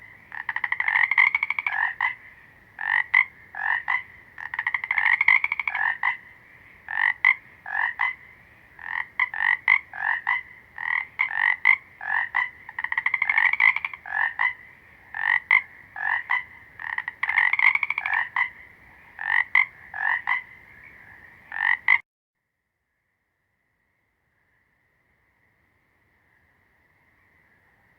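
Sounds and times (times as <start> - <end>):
frogs croaking in a chorus: 0.0 - 22.0, 22.9 - 27.9.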